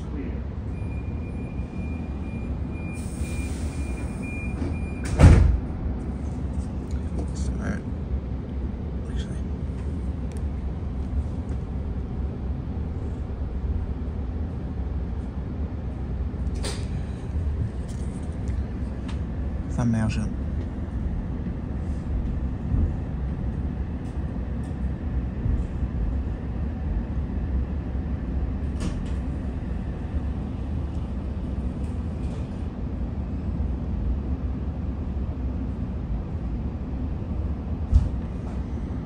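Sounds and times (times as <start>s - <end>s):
train motors and wheels rumbling: 0.0s - 39.0s.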